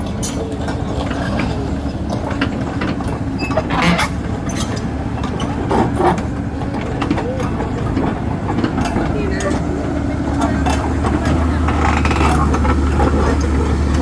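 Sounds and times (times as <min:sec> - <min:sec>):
diesel excavator engines rumbling: 0:00.0 - 0:14.0.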